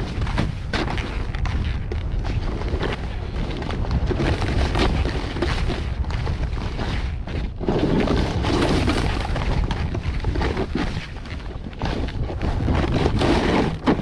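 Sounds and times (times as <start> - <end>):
snowboard scraping over snow: 0.0 - 14.0
wind rumbling on microphone: 0.0 - 14.0.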